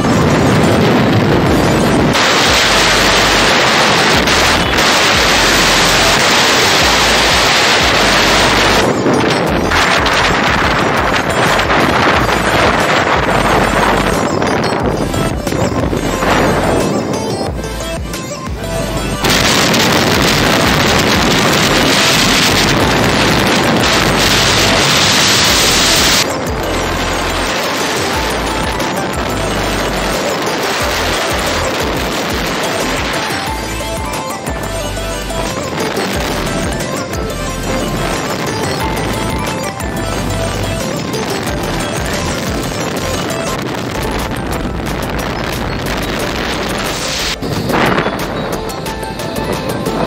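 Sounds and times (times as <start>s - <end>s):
motorbike road noise: 0.0s - 50.0s
wind rush: 0.0s - 50.0s.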